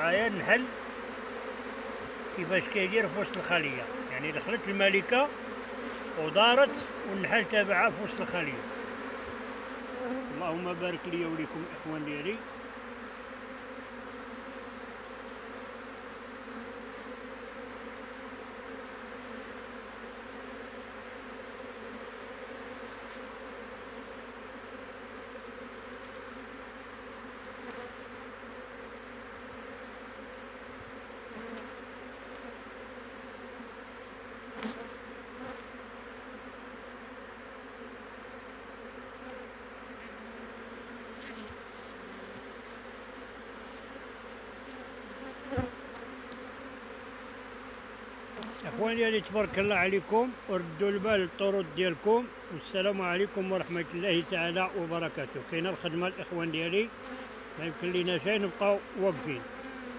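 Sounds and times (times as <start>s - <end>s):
bee swarm buzzing: 0.0s - 59.9s.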